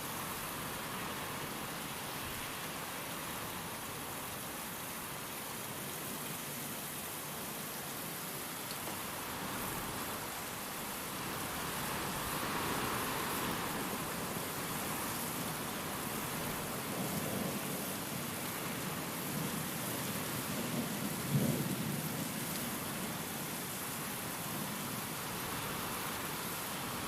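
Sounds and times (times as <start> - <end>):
heavy rain: 0.0 - 27.0
wind: 0.0 - 27.0.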